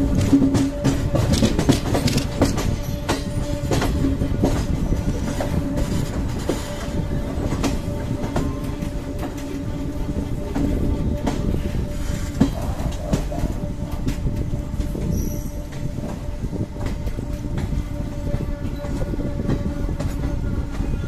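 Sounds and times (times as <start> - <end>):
train wheels rumbling on rails: 0.0 - 21.0
wheels clacking over rail joints: 0.0 - 21.0.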